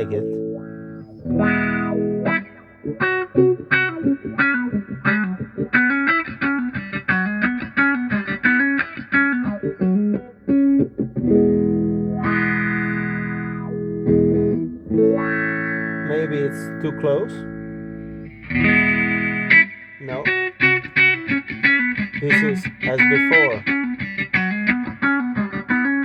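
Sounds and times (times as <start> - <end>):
electric guitar through wah pedal: 0.0 - 26.0.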